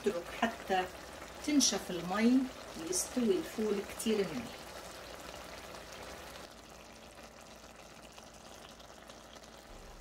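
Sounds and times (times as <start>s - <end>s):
beans simmering in a frying pan: 0.0s - 10.0s.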